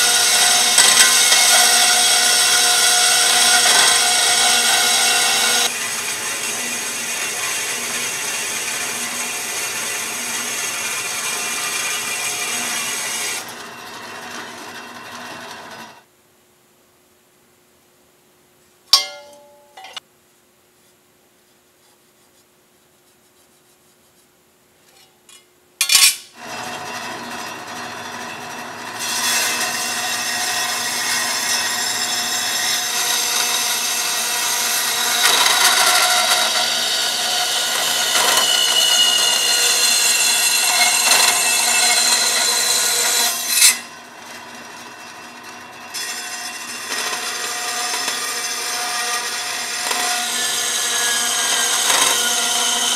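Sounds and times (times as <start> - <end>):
bandsaw cutting steel tubing: 0.0 - 16.0, 26.1 - 52.9.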